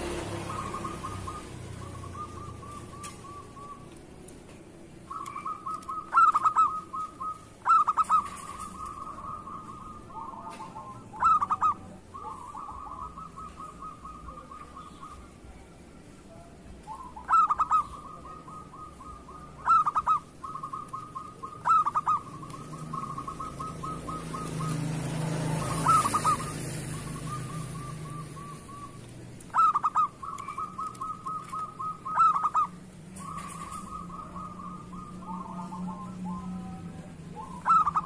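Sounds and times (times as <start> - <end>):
dove cooing: 0.0 - 38.0.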